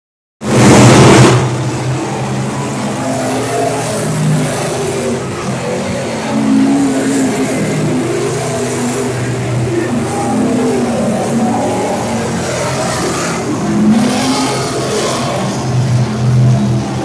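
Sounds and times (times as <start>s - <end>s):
race car engines revving: 0.4s - 17.0s.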